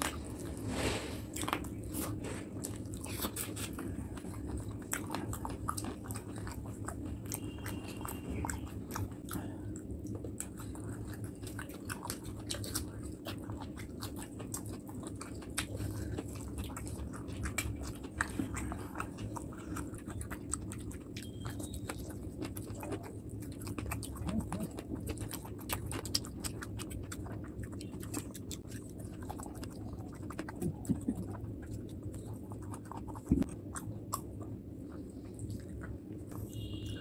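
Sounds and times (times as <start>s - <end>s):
wet chewing mouth clicks: 1.3s - 37.0s.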